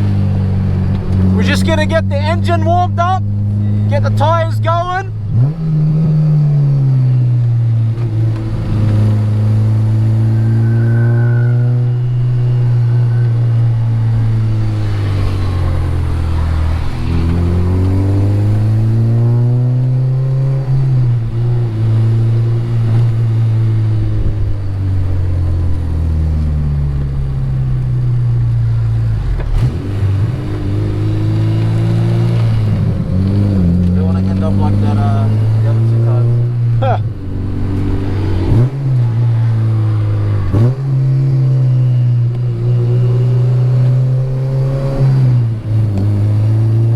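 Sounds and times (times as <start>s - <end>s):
car engine revving through gears: 0.0s - 46.9s.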